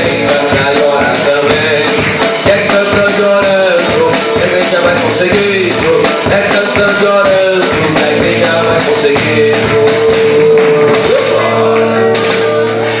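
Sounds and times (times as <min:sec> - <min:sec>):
person singing: 0:00.0 - 0:13.0
worship music with percussion: 0:00.0 - 0:13.0.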